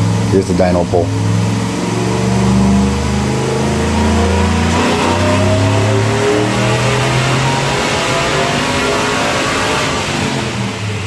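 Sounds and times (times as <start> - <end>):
engine running hard under load: 0.0 - 11.0.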